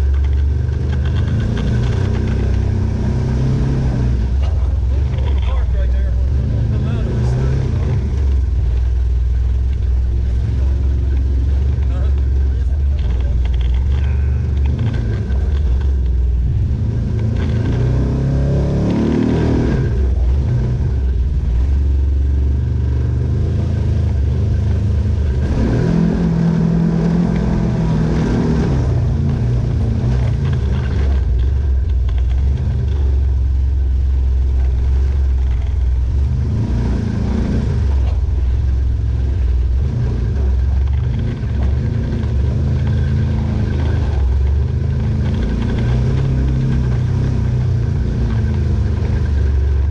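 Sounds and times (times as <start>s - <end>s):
vehicle engine revving: 0.0s - 49.9s.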